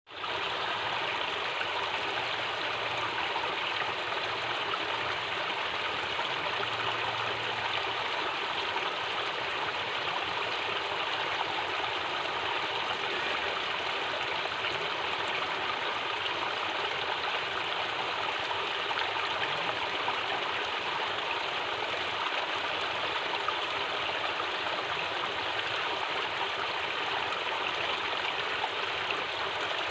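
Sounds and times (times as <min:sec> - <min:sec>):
stream water rushing: 0:00.1 - 0:29.9.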